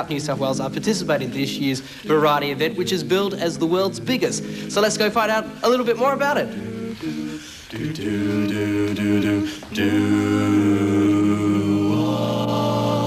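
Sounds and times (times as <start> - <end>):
boys singing a cappella harmony: 0.0 - 13.0.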